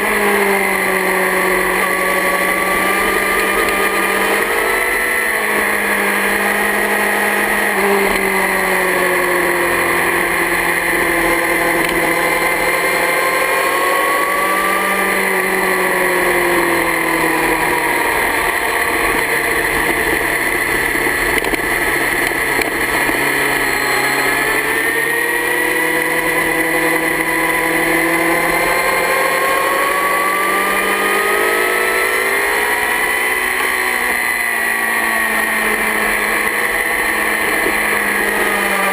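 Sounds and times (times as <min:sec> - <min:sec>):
motorcycle engine running at speed: 0:00.0 - 0:38.9.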